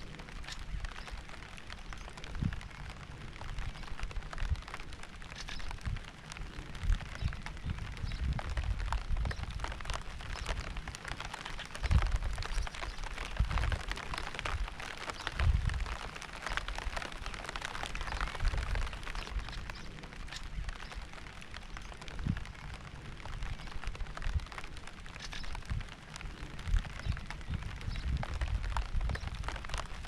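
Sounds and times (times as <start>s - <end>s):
rain drops pattering: 0.0s - 30.0s.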